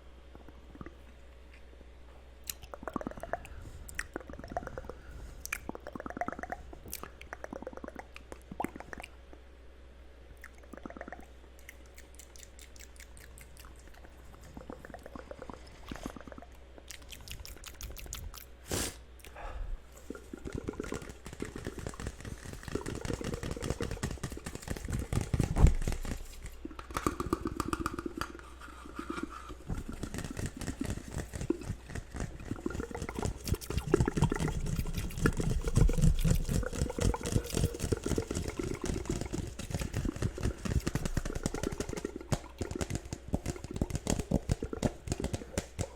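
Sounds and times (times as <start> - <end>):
wet mouth clicks and smacks: 2.4 - 9.4, 10.4 - 18.6, 20.1 - 28.6, 29.8 - 45.9.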